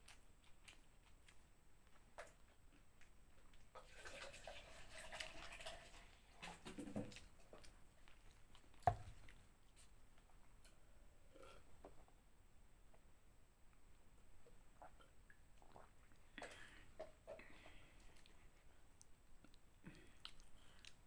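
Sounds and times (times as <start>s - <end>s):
chewing and wet mouth sounds: 0.0s - 10.8s, 14.4s - 21.0s.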